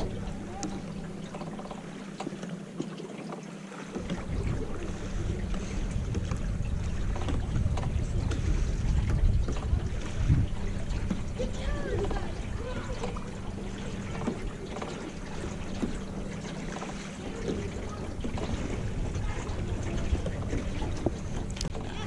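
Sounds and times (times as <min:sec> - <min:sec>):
low hum: 0:00.0 - 0:22.0
water lapping against hull: 0:00.0 - 0:22.0
wind buffeting microphone: 0:03.9 - 0:22.0.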